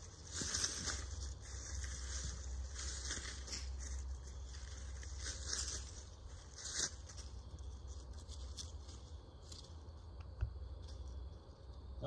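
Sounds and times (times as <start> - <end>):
rope rustling against wood: 0.0 - 10.1.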